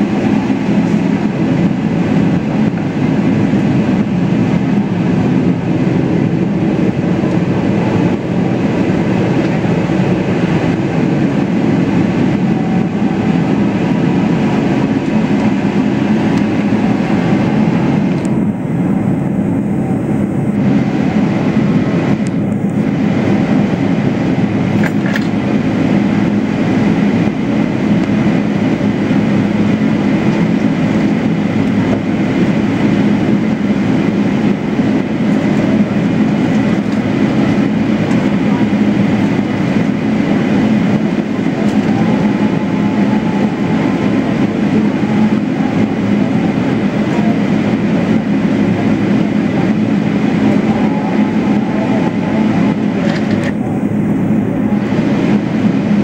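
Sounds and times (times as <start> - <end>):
airplane cabin low rumble: 0.0 - 56.0.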